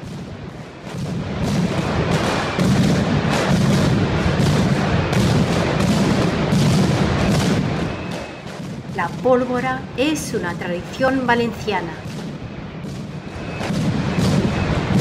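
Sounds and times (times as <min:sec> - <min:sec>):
firecrackers banging: 0:00.0 - 0:15.0.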